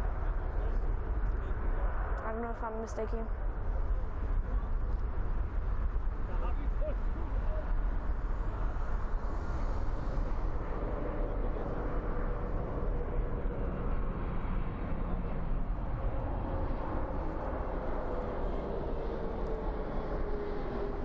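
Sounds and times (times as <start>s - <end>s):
jet engines roaring: 4.0s - 21.0s.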